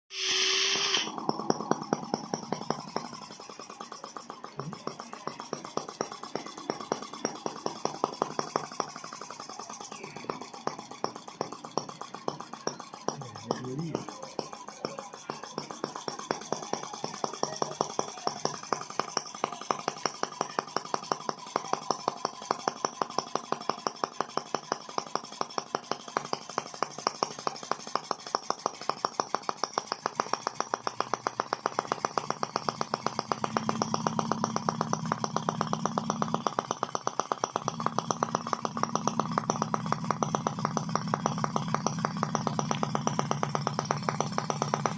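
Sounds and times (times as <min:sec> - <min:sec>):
small engine ticking: 0:00.1 - 0:44.9.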